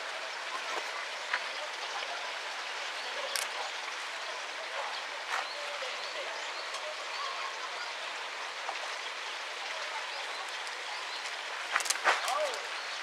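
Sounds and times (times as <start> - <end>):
water flowing in rocky stream: 0.0 - 13.0.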